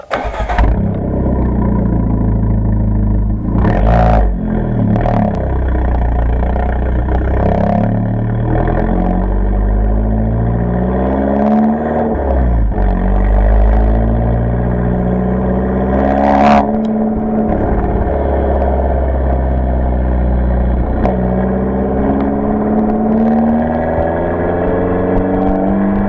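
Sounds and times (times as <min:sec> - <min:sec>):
exhaust cracks: 0:00.0 - 0:08.5, 0:12.1 - 0:26.0
car engine revving: 0:00.0 - 0:26.0.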